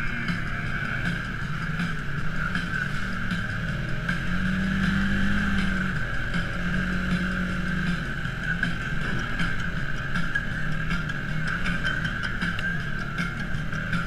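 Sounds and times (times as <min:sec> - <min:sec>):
high whine: 0:00.0 - 0:14.0
off-road vehicle engine running: 0:00.0 - 0:14.0.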